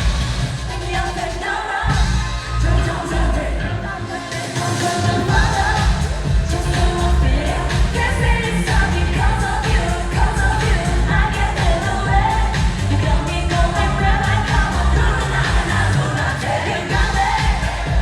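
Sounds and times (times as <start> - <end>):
pop backing track with bass beat: 0.0 - 18.0
woman singing: 0.7 - 18.0.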